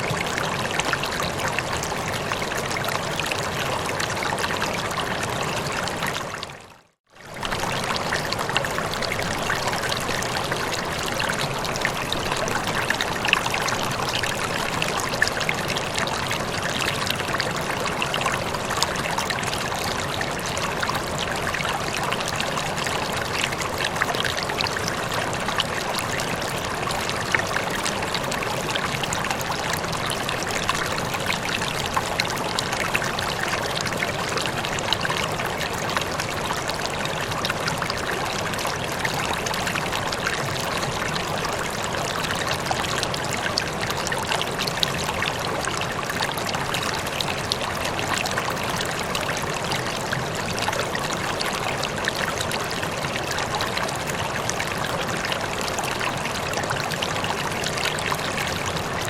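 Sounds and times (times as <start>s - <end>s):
water rushing and splashing: 0.0s - 59.0s.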